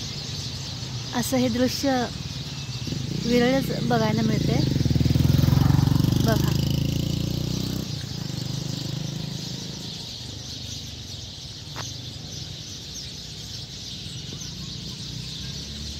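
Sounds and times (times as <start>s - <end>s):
sparrows chirping: 0.0s - 15.9s
vehicle engine hum: 0.8s - 15.9s.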